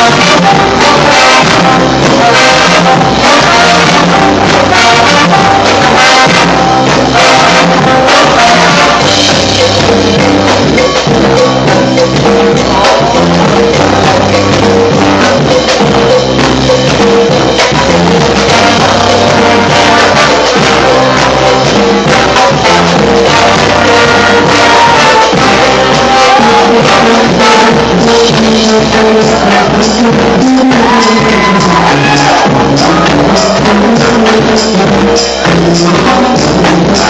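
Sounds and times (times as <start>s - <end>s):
loud music with bass and percussion: 0.0s - 37.0s.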